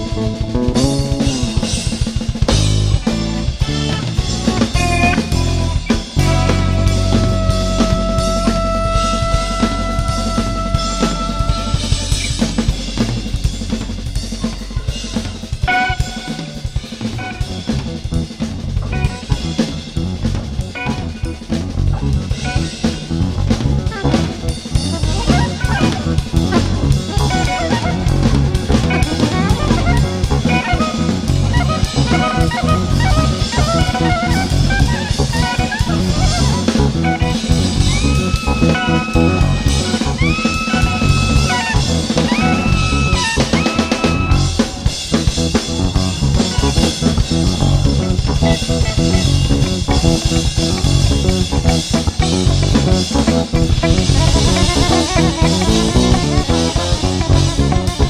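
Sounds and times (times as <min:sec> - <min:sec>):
drum kit: 0:00.0 - 0:58.0
electric guitar line: 0:00.0 - 0:58.0.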